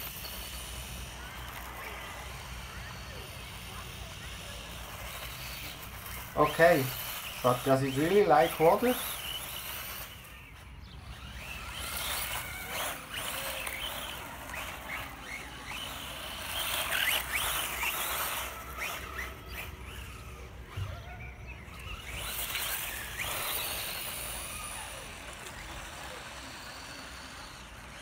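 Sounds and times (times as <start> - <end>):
tyres hissing on grit: 0.0 - 10.4, 11.5 - 20.9, 21.8 - 28.0
rc car motor whine: 0.0 - 28.0.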